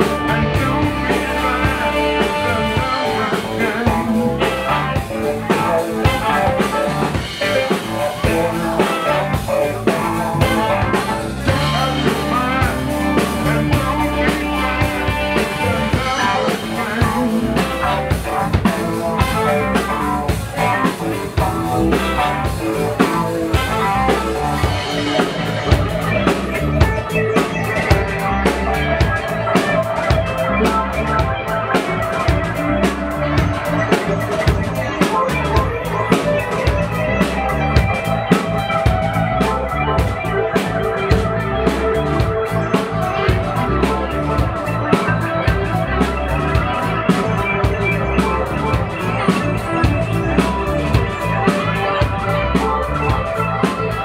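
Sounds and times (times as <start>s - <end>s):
drum kit: 0.0s - 54.0s
electric bass: 0.0s - 54.0s
electric guitar: 0.0s - 54.0s
electronic sounds: 0.0s - 54.0s.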